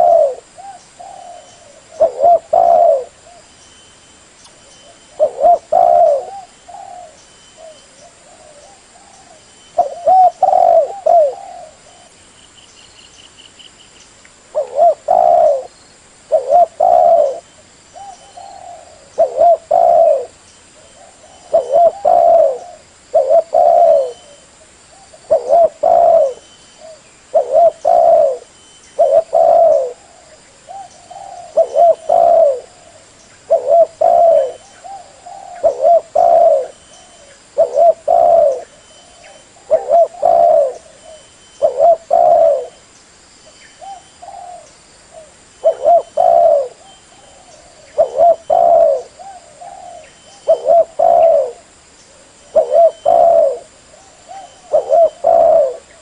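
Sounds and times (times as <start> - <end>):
dove cooing: 0.0 - 3.5, 4.8 - 12.2, 14.5 - 42.8, 43.8 - 56.0.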